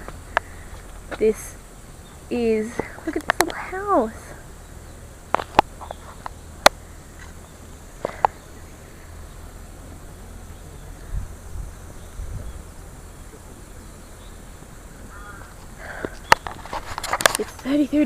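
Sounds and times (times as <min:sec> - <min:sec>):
low rumbles: 0:00.0 - 0:18.0.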